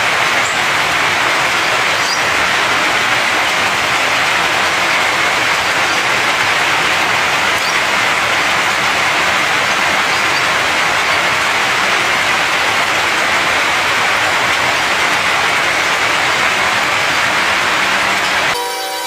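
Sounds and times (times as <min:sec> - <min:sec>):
heavy rain pouring: 0:00.0 - 0:18.6.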